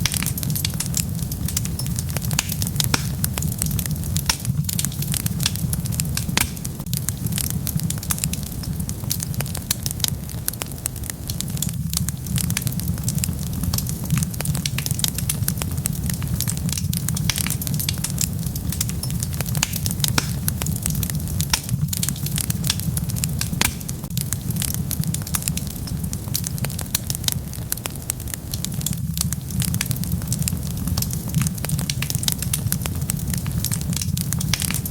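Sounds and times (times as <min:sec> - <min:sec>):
fire burning with low rumble: 0:00.0 - 0:34.9
wood crackling and popping: 0:00.0 - 0:34.9.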